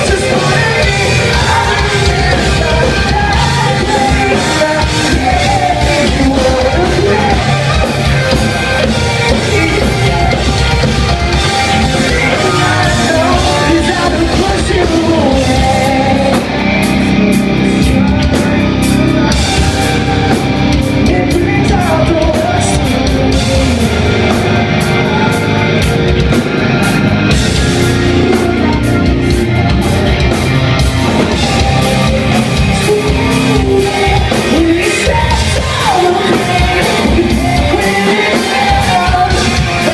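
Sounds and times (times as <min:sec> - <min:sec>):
distorted guitars: 0:00.0 - 0:39.9
drum kit: 0:00.0 - 0:39.9
person singing: 0:00.0 - 0:39.9.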